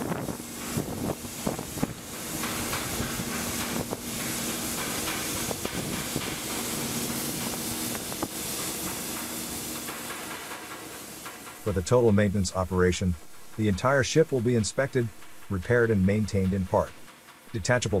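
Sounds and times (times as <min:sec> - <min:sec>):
hissing industrial noise: 0:00.0 - 0:18.0.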